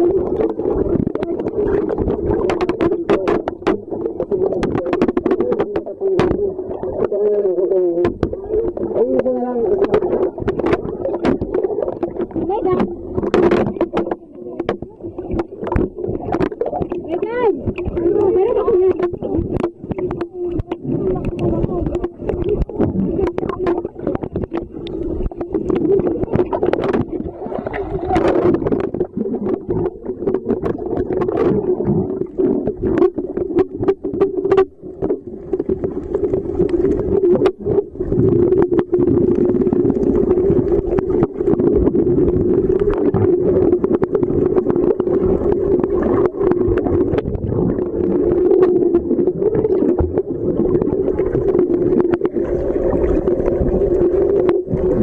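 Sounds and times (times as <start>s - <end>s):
low underwater drone: 0.0s - 55.0s
underwater crackles and knocks: 0.0s - 55.0s.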